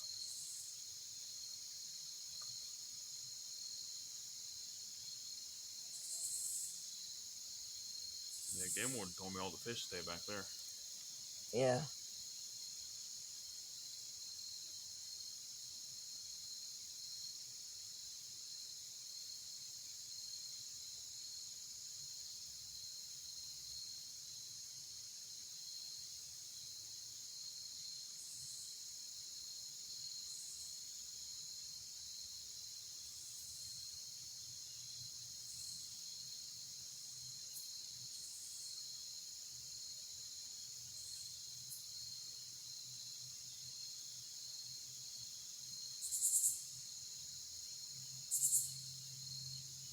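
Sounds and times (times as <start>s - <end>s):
insects trilling: 0.0s - 23.9s, 24.5s - 49.9s.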